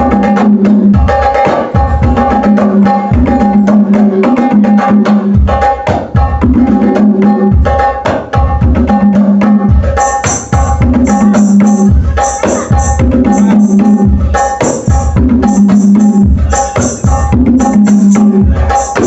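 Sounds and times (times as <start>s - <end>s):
bright high percussion: 0.0s - 19.0s
hand-drum pattern: 0.0s - 19.0s.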